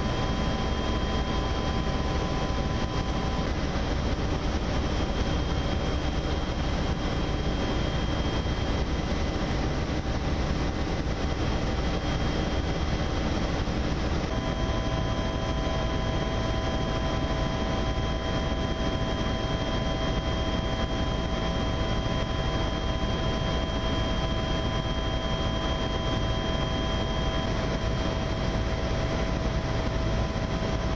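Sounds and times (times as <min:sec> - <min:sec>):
helicopter engine and rotor drone: 0:00.0 - 0:30.9.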